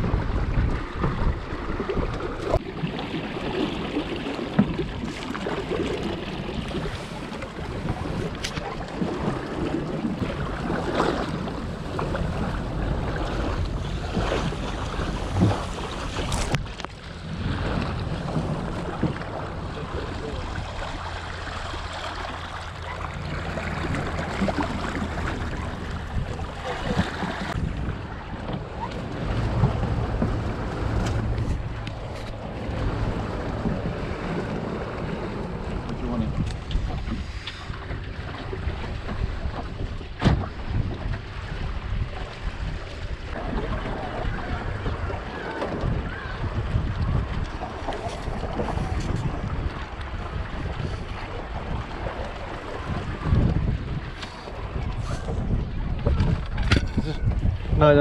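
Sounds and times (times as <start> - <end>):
water rushing along hull: 0.0 - 58.0
wind buffeting microphone: 0.0 - 58.0.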